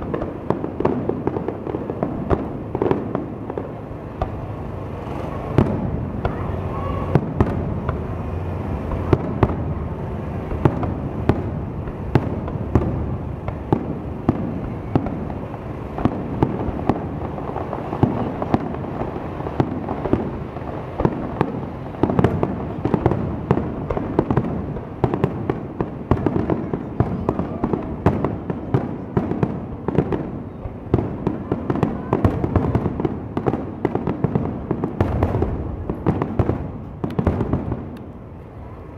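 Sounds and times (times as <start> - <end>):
fireworks booming and cracking: 0.0 - 38.9.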